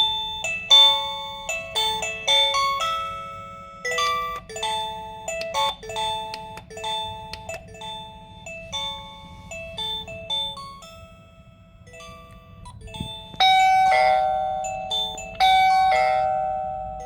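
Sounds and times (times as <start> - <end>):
light bell-like melody: 0.0 - 17.0.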